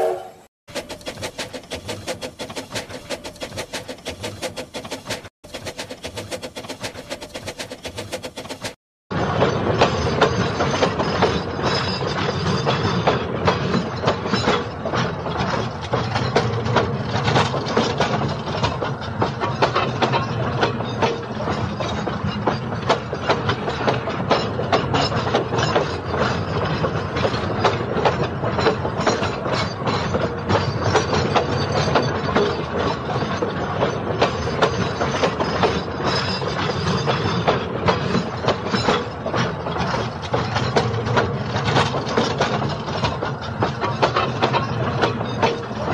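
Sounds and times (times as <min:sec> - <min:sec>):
train wheels clattering over rail joints: 0:00.7 - 0:45.9.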